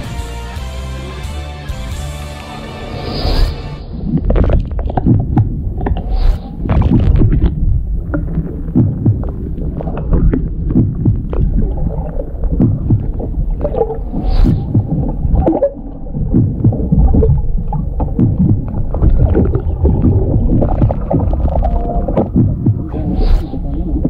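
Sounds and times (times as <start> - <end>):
underwater rumble with knocks: 3.9 - 24.0.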